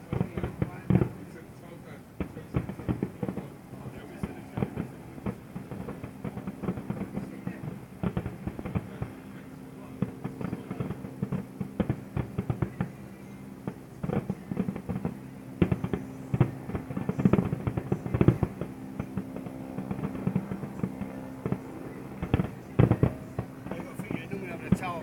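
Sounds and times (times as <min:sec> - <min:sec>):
fireworks bangs and crackles: 0:00.0 - 0:25.0
steady low hum: 0:00.0 - 0:25.0.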